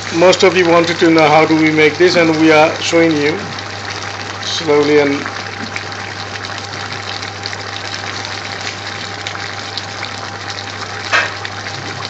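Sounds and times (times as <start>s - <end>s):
vegetables boiling and bubbling: 0.0s - 12.0s.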